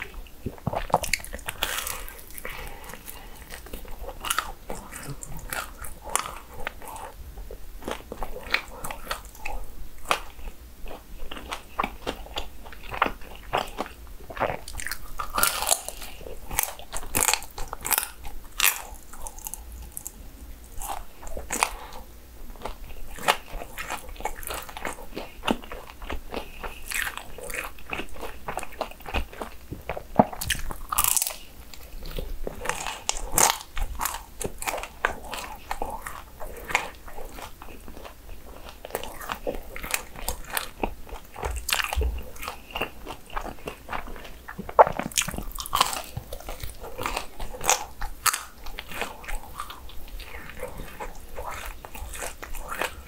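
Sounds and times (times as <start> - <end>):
person chewing crunchy food: 0.0 - 53.0.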